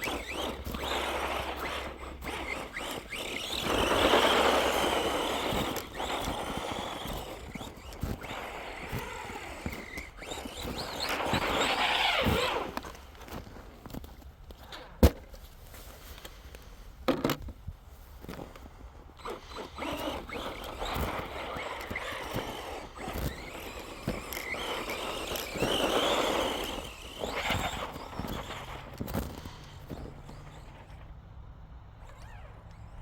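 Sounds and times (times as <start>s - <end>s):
toy truck motor whining: 0.0s - 14.0s, 19.1s - 33.0s
tyres churning through snow: 0.0s - 14.4s, 17.9s - 33.0s.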